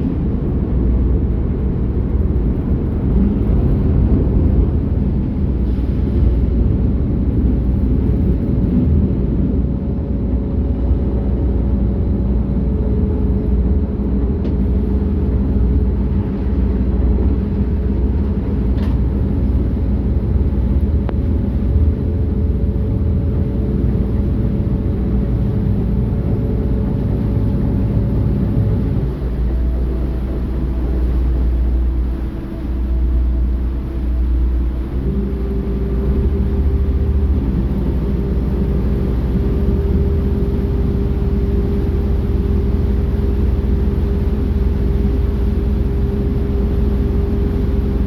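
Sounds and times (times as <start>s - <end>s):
ferry engine drone: 0.0s - 48.0s.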